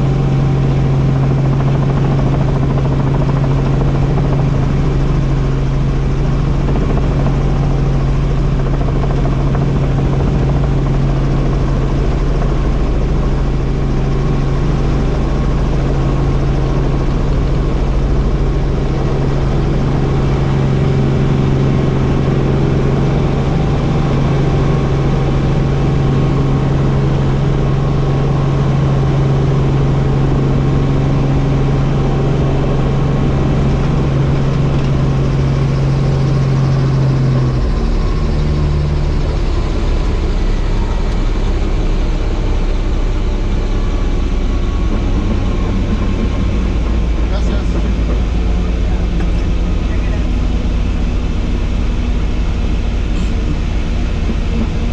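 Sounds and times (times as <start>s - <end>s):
helicopter engine and rotor drone: 0.0s - 54.9s.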